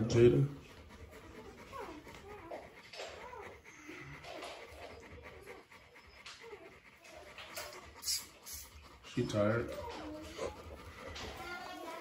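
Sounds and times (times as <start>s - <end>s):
dog panting: 0.0s - 12.0s
puppies squeaking and whimpering: 0.7s - 12.0s.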